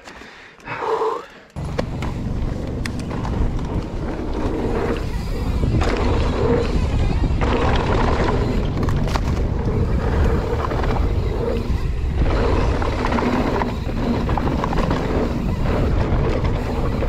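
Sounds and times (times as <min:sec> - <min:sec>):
mountain bike rumble on dirt: 0:01.6 - 0:17.0.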